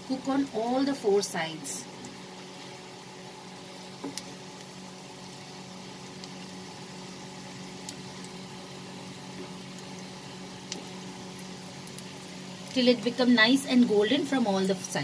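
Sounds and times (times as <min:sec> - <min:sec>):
bread sizzling in a pan: 0:00.0 - 0:15.0
constant low hum: 0:00.0 - 0:15.0.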